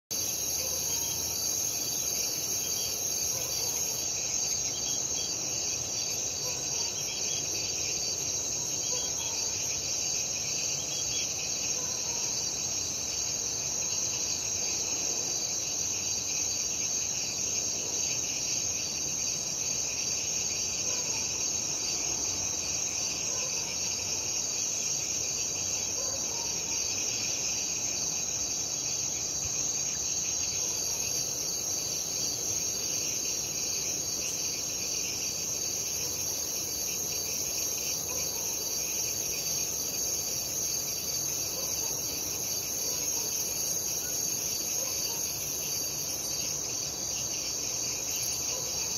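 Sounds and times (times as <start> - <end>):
crickets chirping: 0.1 - 48.9
frogs calling faintly: 0.2 - 48.9.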